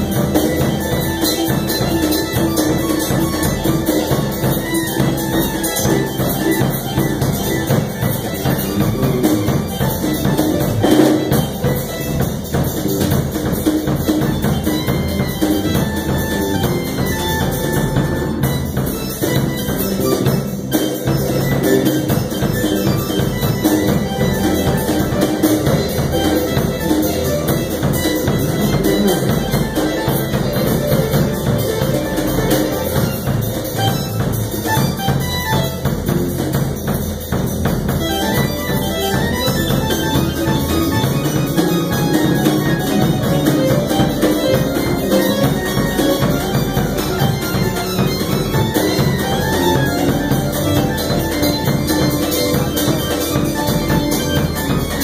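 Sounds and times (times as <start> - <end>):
drum kit: 0.0 - 55.0
keyboards and synthesizers: 0.0 - 55.0.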